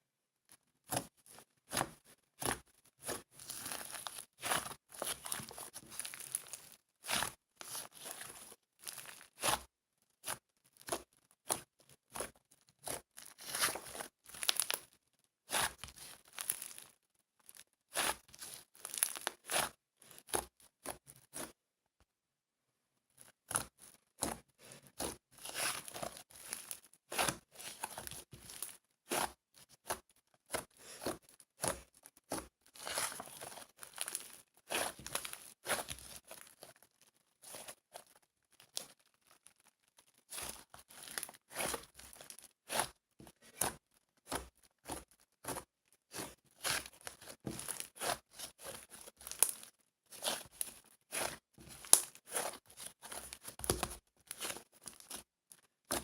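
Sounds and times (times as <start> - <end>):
crinkling and tearing: 2.4 - 9.6, 12.2 - 14.9, 15.5 - 20.2, 24.6 - 56.0.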